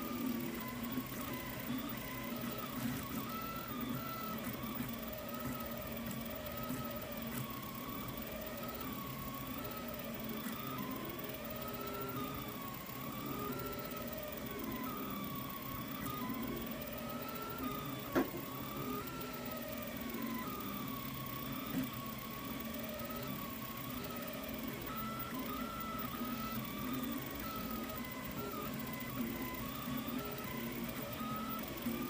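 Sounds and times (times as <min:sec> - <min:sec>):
stepper motors whining: 0:00.0 - 0:32.0.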